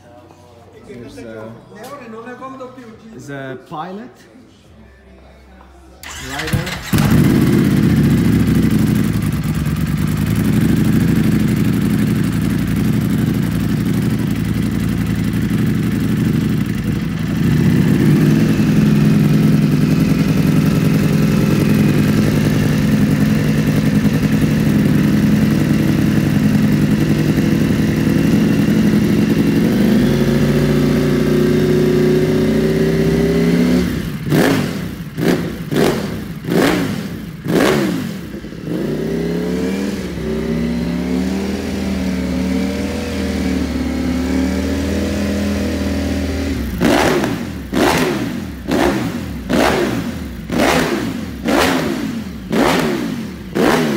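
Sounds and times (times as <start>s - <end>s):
motorcycle engine idling: 6.0s - 53.9s
motorcycle engine revving: 6.0s - 53.9s.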